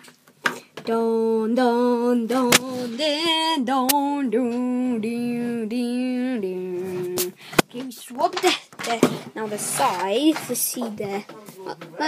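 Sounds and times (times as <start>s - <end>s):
child singing wordless tune: 0.8s - 11.3s.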